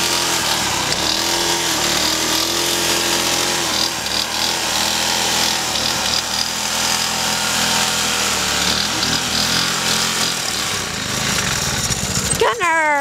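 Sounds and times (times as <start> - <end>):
small lawn mower engine: 0.0 - 13.0.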